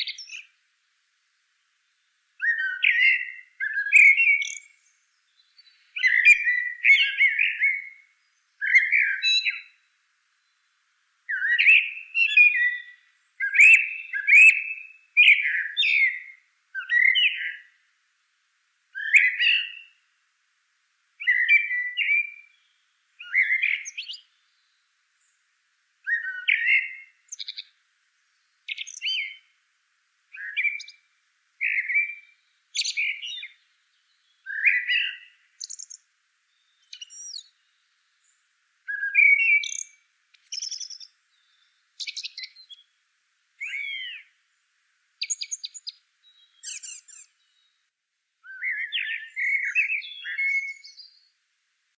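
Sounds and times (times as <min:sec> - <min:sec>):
bird chirping: 0:00.0 - 0:00.6, 0:01.8 - 0:17.8, 0:18.9 - 0:20.0, 0:21.2 - 0:25.4, 0:26.0 - 0:29.6, 0:30.3 - 0:43.0, 0:43.6 - 0:44.4, 0:45.2 - 0:51.4.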